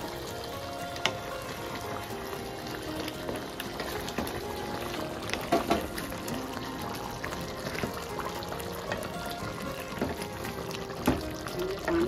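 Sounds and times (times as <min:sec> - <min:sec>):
curry bubbling: 0:00.0 - 0:12.0
soft background music: 0:00.0 - 0:12.0.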